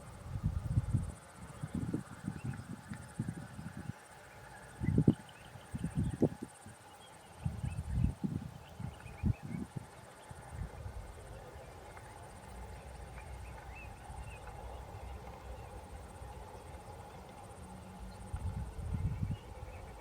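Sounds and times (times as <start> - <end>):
birds chirping: 1.5 - 20.0.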